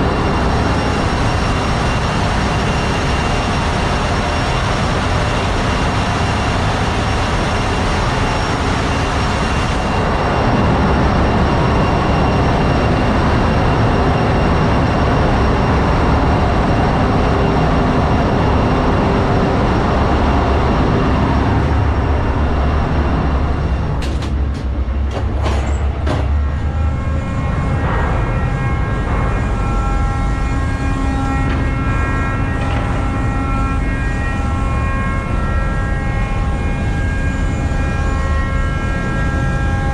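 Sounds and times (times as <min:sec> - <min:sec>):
engine-room machinery din: 0:00.0 - 0:39.9
high steady machine whines: 0:00.0 - 0:39.9.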